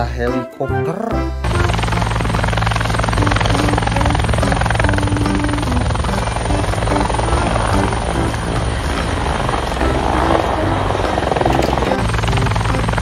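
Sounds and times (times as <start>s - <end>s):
helicopter rotor blades chopping: 1.4s - 13.0s
high engine whine: 1.4s - 13.0s.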